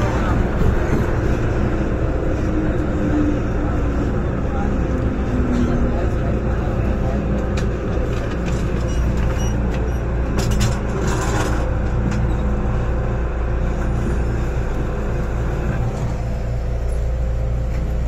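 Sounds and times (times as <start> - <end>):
train rumble from inside: 0.0 - 18.0.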